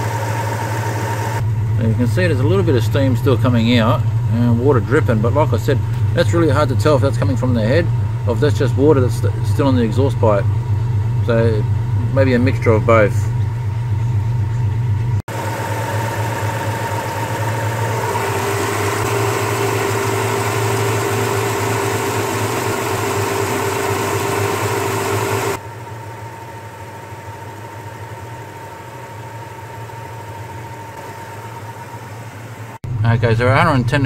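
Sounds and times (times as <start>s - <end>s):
van engine idling: 0.0s - 34.0s.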